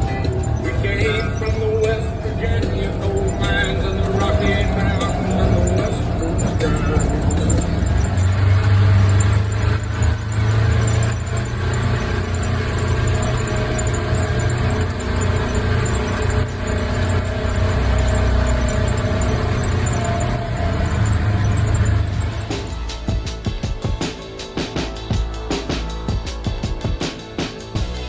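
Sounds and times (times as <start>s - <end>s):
high whine: 0.0s - 28.0s
off-road vehicle engine running: 0.0s - 28.0s.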